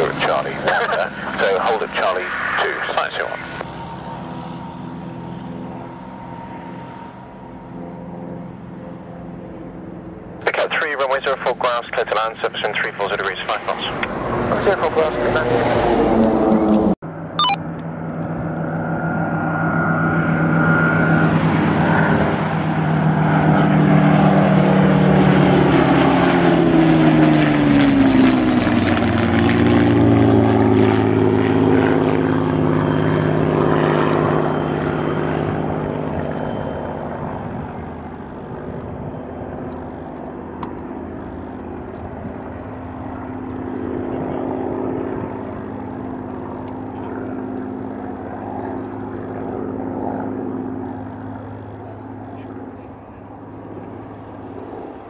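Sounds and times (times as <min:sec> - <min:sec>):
propeller aircraft passing: 0:00.0 - 0:55.0.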